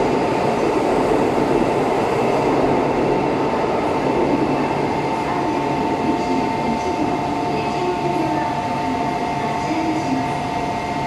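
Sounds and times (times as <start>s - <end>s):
train rumbling and rushing: 0.0s - 11.0s.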